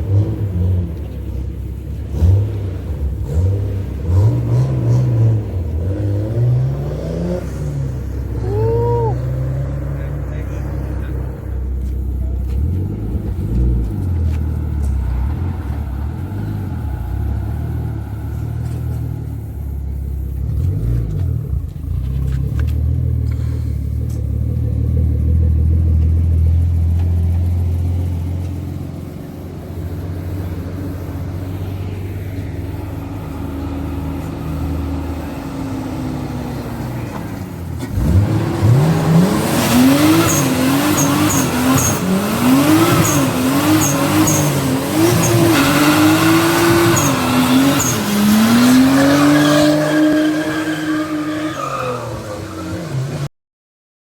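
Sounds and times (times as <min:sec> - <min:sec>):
car engine revving: 0:00.0 - 0:53.3.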